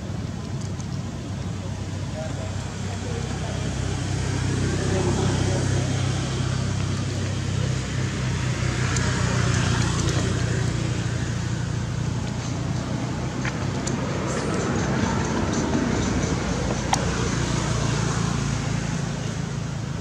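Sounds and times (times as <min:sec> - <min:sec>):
constant background noise: 0:00.0 - 0:20.0.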